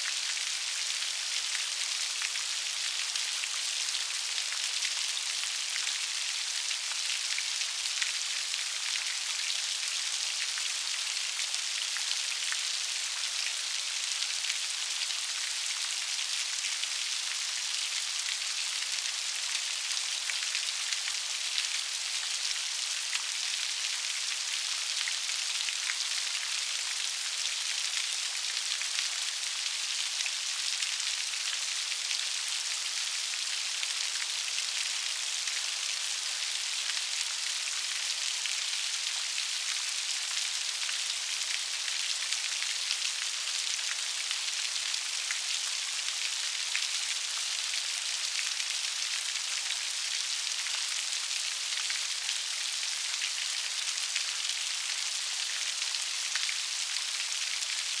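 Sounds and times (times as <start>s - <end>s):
rain on hard surface: 0.0s - 58.0s.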